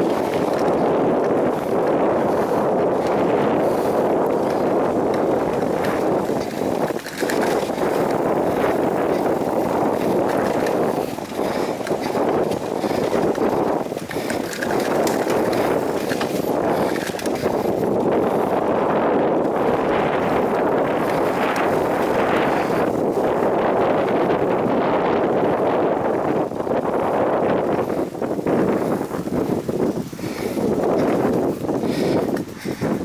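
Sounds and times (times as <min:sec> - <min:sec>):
bicycle rattles over bumps: 0:00.0 - 0:33.0
bicycle tyre noise on dirt: 0:00.0 - 0:33.0
wind rushing over microphone: 0:00.0 - 0:33.0.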